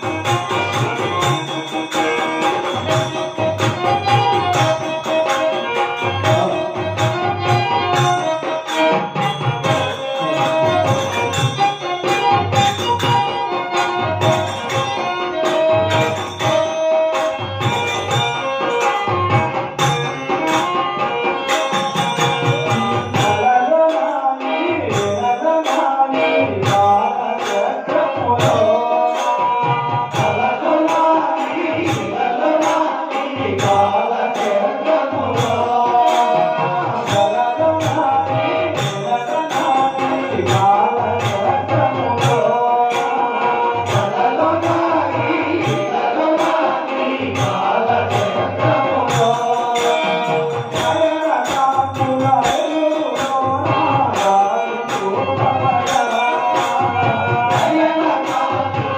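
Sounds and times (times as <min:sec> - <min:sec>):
dholak drum beating: 0:00.0 - 0:58.9
group of men singing: 0:00.0 - 0:58.9
harmonium chords: 0:00.0 - 0:58.9.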